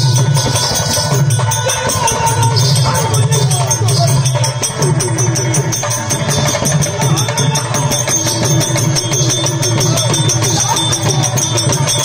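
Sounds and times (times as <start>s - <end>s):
fast percussion beat: 0.0s - 12.0s.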